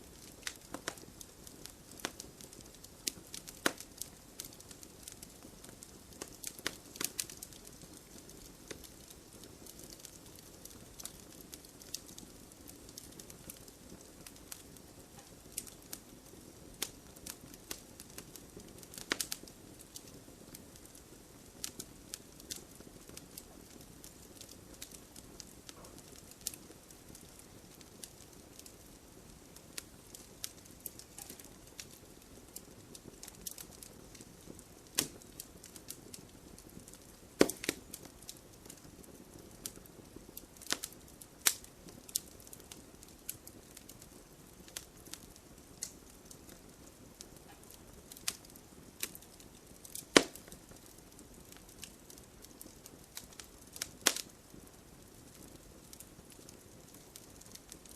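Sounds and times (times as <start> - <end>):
campfire crackling and popping: 0.0 - 57.9
soft hiss of flames: 0.0 - 57.9.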